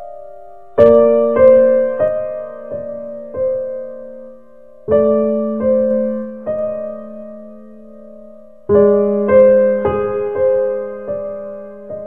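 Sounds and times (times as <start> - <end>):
relaxing piano music: 0.0 - 12.0.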